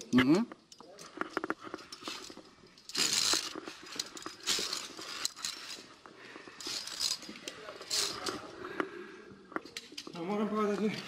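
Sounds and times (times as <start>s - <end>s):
rustling and scraping: 0.8s - 11.0s.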